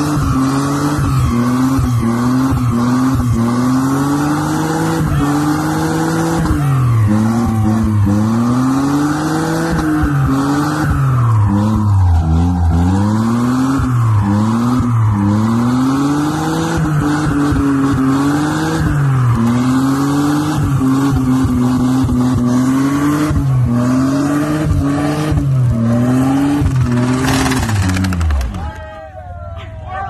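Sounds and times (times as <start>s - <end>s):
car engine revving high: 0.0s - 28.6s.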